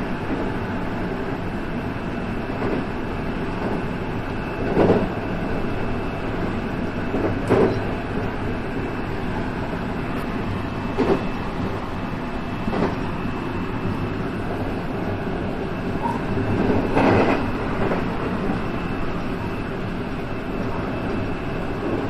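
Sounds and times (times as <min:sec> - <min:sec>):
electric train rolling rumble: 0:00.0 - 0:22.0.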